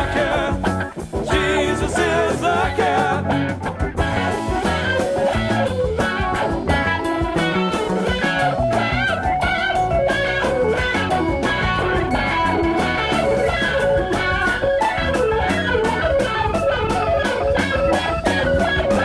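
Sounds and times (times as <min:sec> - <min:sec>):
bass guitar: 0:00.0 - 0:19.0
electric guitar lead melody: 0:00.0 - 0:19.0
steady drum beat: 0:00.0 - 0:19.0.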